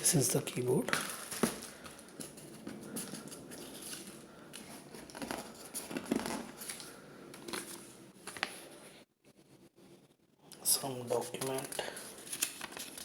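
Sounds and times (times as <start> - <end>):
packaging crinkling and rustling: 0.1 - 8.8, 11.0 - 13.0.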